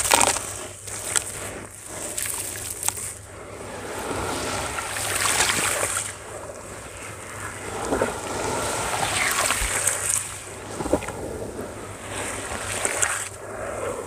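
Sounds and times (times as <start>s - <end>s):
hands squeezing wet sand: 0.0s - 14.0s
water sloshing: 2.2s - 13.5s.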